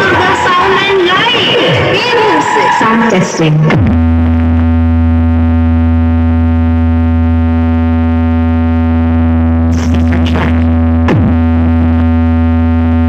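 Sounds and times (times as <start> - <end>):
synthesizer bass drone: 0.0 - 13.0.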